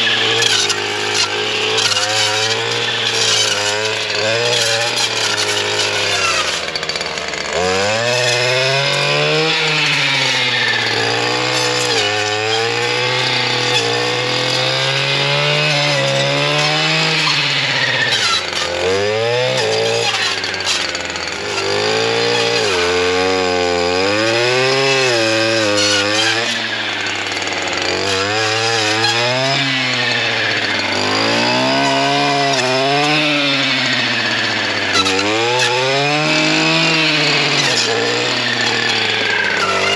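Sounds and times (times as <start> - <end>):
blade cutting through branches: 0.0 - 39.9
brush cutter engine running: 0.0 - 39.9.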